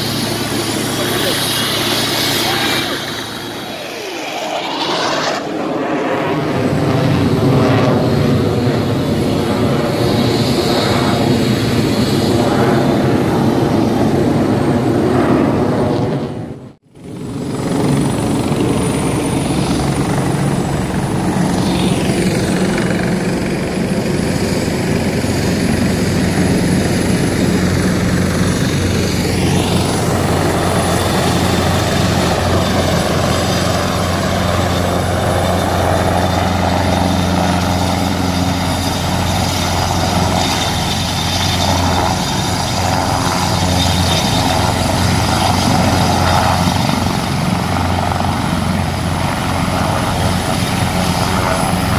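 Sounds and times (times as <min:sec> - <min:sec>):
helicopter rotor drone: 0:00.0 - 0:51.9
turbine whine: 0:00.0 - 0:51.9.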